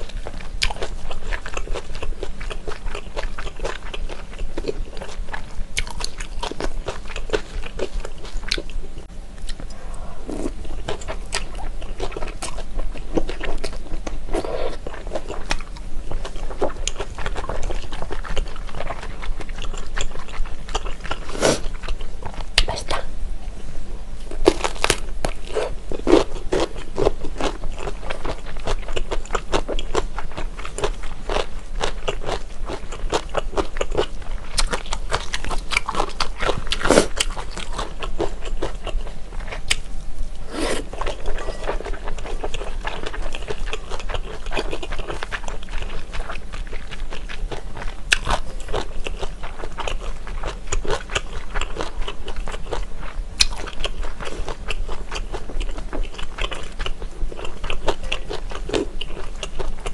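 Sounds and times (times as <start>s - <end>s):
person chewing noodles: 0.0s - 22.7s, 24.3s - 59.9s.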